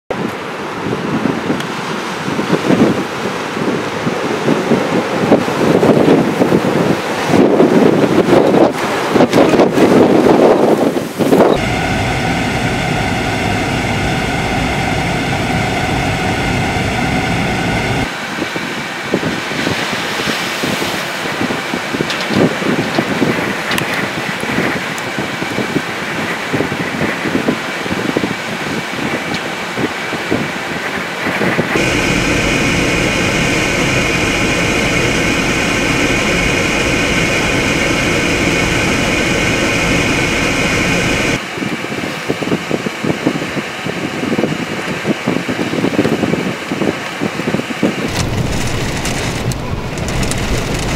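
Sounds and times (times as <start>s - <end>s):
strong wind on microphone: 0.1s - 50.9s.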